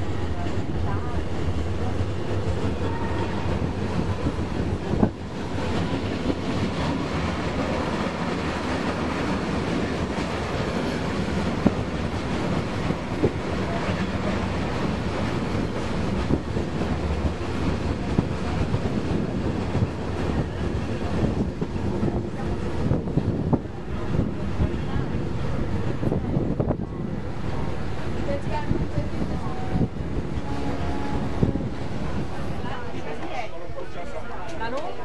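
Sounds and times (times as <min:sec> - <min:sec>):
train wheels rumbling on rails: 0:00.0 - 0:33.4.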